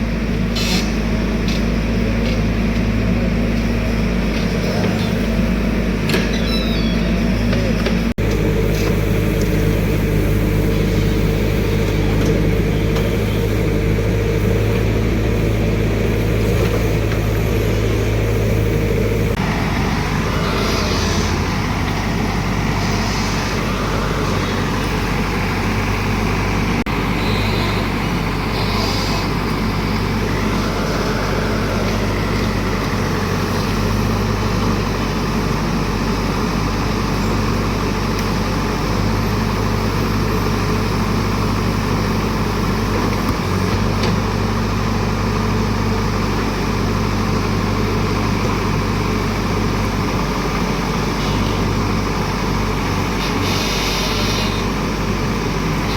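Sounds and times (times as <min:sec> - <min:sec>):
excavator diesel engine humming: 0:00.0 - 0:55.9.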